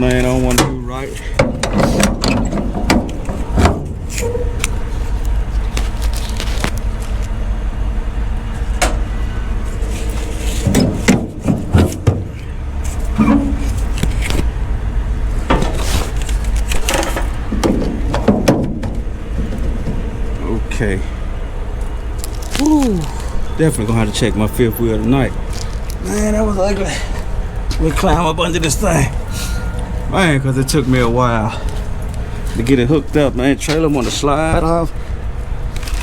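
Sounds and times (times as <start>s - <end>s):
diesel truck engine idling: 0.0s - 36.0s.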